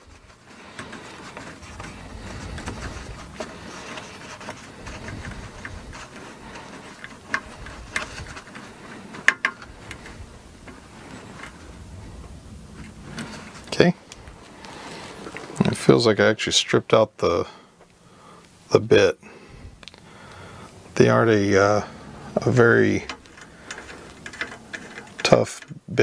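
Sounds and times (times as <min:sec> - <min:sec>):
hex driver handling rumble: 0:00.0 - 0:15.9, 0:19.7 - 0:25.9.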